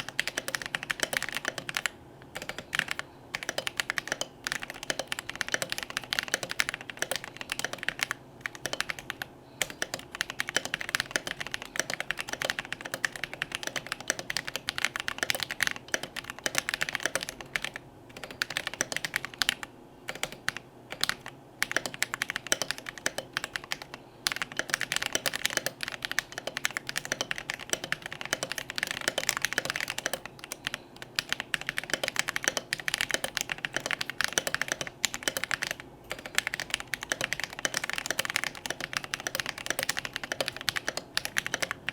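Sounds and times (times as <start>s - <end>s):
fast typing on mechanical keyboard: 0.0s - 41.9s.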